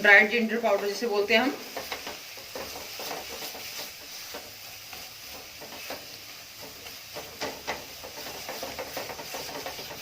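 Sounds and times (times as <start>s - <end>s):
ginger sizzling in fat: 0.0s - 10.0s
spoon stirring and scraping: 0.6s - 10.0s.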